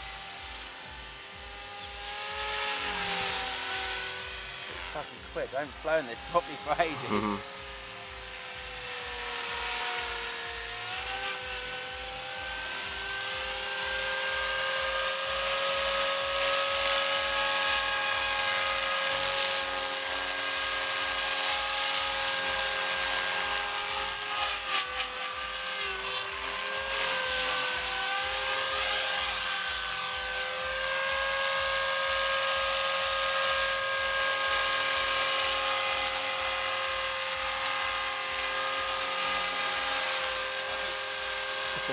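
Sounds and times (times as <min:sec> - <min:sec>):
rc helicopter motor whine: 0:00.0 - 0:41.9.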